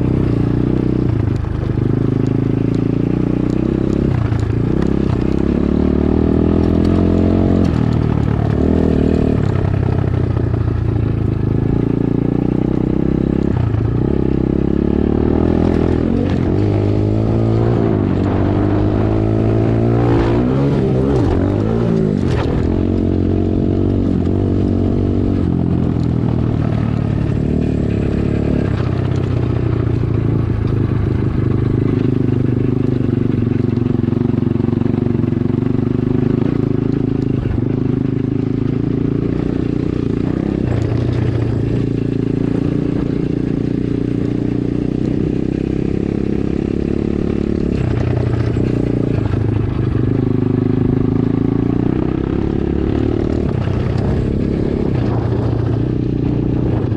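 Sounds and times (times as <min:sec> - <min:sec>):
dirt bike engine revving: 0:11.2 - 0:56.9.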